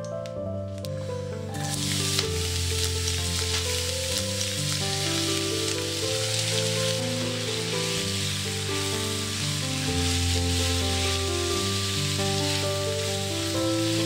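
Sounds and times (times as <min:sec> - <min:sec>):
background music of held notes: 0:00.0 - 0:14.0
onions sizzling in a frying pan: 0:01.6 - 0:14.0.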